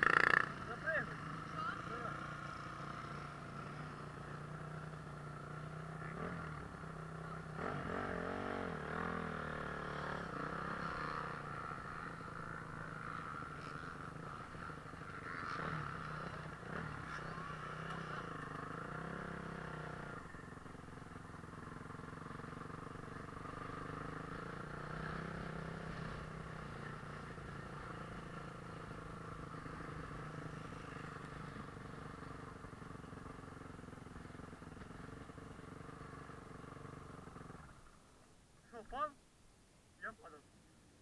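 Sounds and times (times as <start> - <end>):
motorcycle engine running: 0.0 - 38.8.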